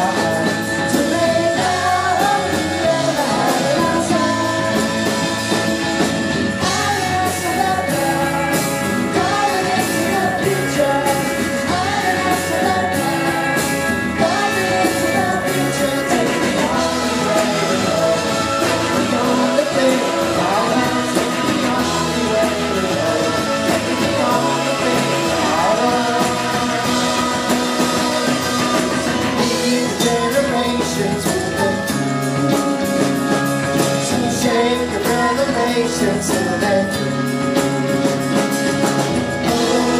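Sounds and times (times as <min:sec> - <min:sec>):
woman singing lead: 0:00.0 - 0:37.8, 0:39.4 - 0:39.9
electric guitars: 0:00.0 - 0:39.9
live rock band playing: 0:00.0 - 0:39.9.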